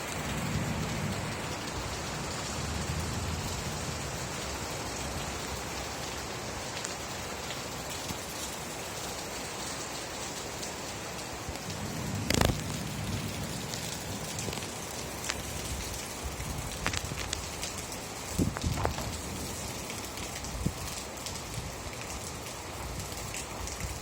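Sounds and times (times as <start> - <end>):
rain falling: 0.0 - 24.0
raindrop ticks: 0.0 - 24.0.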